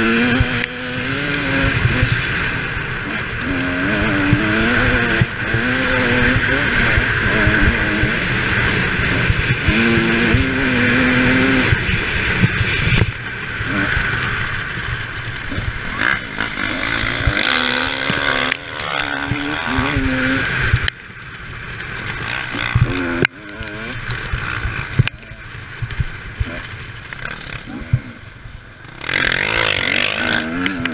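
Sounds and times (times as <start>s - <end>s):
off-road motorcycle engine revving: 0.0s - 30.9s.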